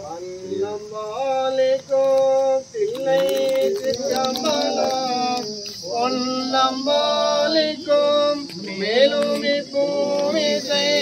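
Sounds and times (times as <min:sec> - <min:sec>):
voices singing a chant: 0:00.0 - 0:11.0.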